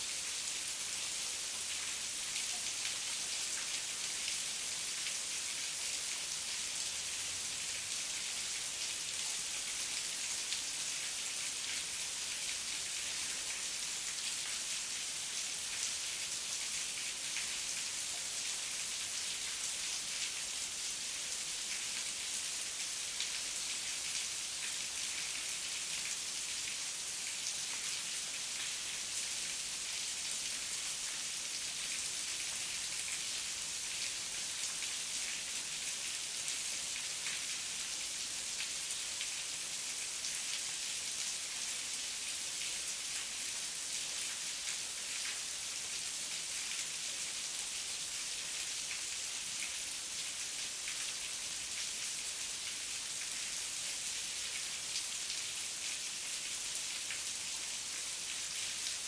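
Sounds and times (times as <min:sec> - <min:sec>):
heavy rain on leaves and ground: 0:00.0 - 0:59.0.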